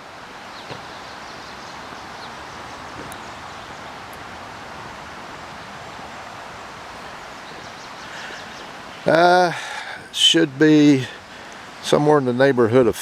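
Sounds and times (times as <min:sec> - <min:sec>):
steady rushing outdoor ambience: 0:00.0 - 0:13.0.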